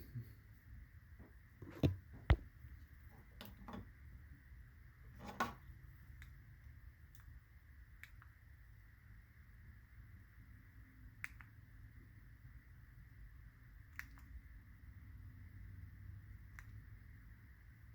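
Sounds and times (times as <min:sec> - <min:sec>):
low steady hum: 0:00.0 - 0:17.9.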